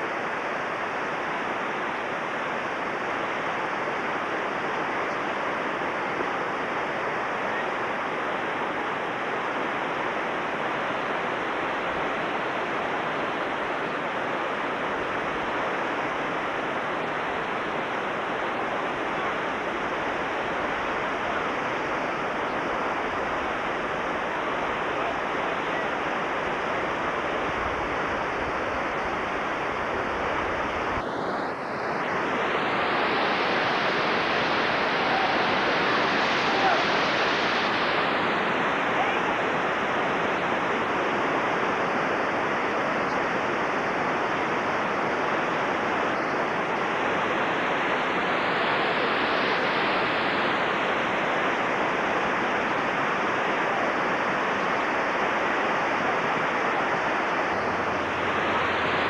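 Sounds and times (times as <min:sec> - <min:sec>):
whitewater rapids roaring: 0:00.0 - 0:59.0.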